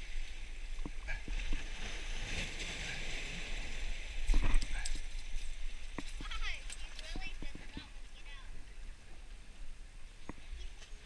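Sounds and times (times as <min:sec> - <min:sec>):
surf on rocks: 0:00.0 - 0:11.0.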